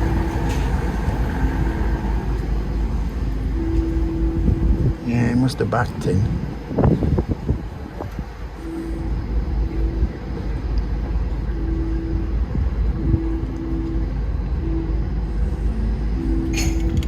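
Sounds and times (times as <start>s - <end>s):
wind on microphone: 0.0s - 15.7s
ship engine rumble: 0.0s - 17.0s.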